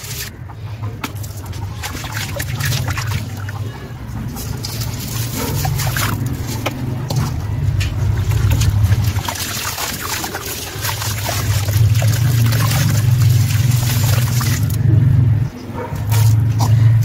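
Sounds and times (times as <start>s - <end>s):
water sloshing and dripping: 0.0s - 15.2s.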